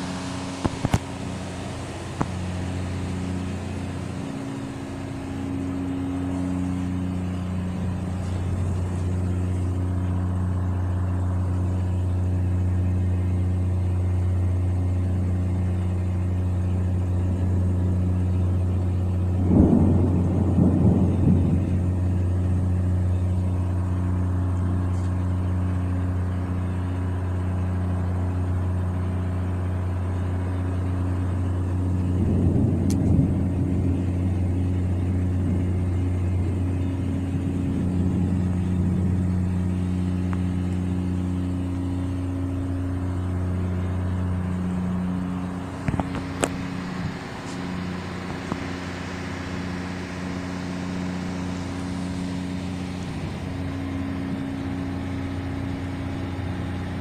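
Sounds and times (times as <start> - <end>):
ship engine drone: 0.0 - 57.0.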